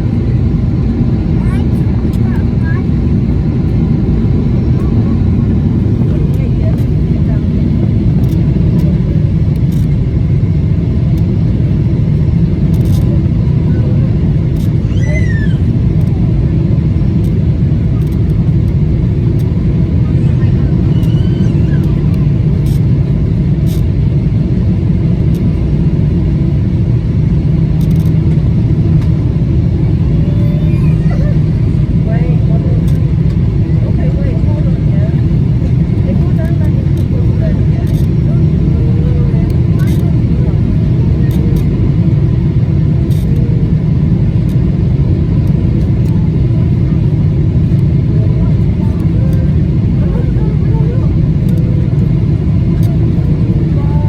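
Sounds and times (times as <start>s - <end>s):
airliner low rumble: 0.0s - 54.0s.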